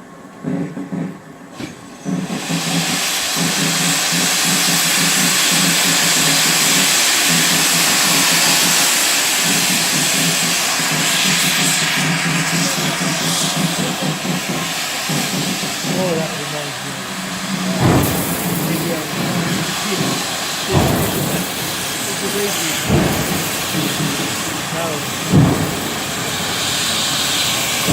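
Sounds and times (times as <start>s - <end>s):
steam locomotive hissing: 0.4s - 27.9s.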